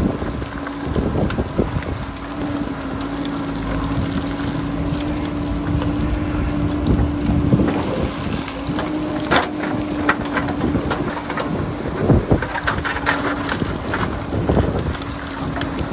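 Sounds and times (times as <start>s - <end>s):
diesel engine running: 0.0s - 15.9s
wind buffeting microphone: 0.0s - 15.9s.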